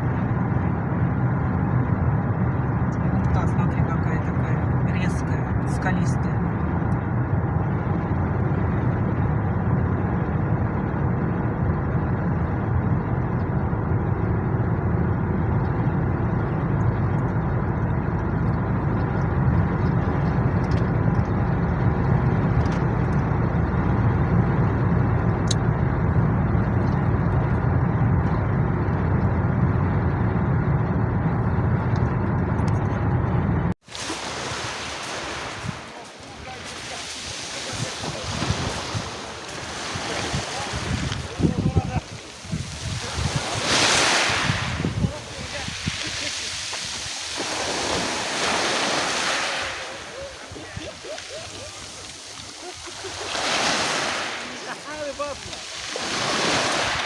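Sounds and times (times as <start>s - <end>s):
car engine and tyre road noise: 0.0s - 57.0s
wind buffeting microphone: 0.0s - 57.0s.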